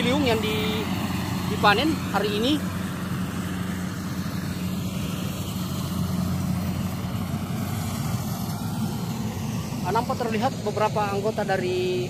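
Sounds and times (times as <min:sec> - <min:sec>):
harvester engine droning: 0:00.0 - 0:12.0.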